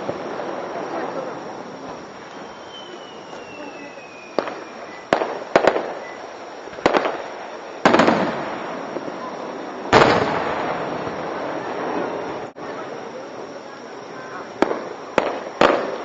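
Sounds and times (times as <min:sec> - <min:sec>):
fireworks bangs with echo: 0:00.0 - 0:12.8, 0:14.2 - 0:16.0.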